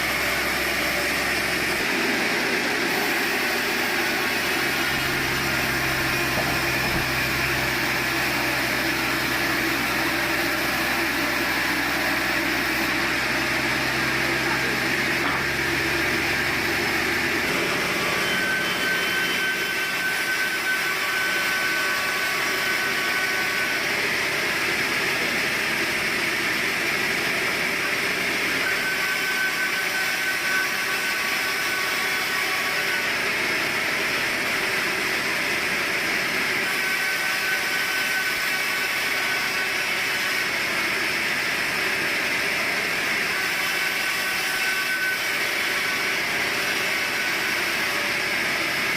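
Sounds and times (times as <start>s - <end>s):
sawmill saw cutting log: 0.0s - 48.9s.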